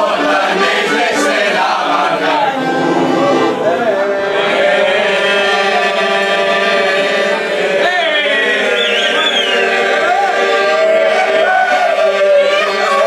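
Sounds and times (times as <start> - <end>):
men singing in chorus: 0.0 - 3.5, 4.1 - 12.9
accordion chords: 0.0 - 13.0.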